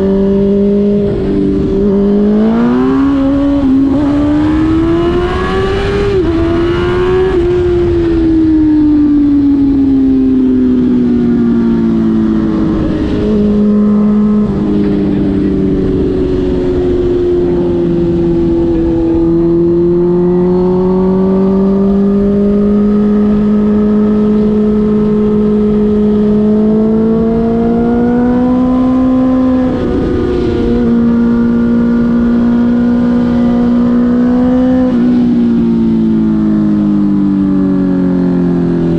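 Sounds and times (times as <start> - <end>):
loud motorcycle engine on highway: 0.0 - 38.9.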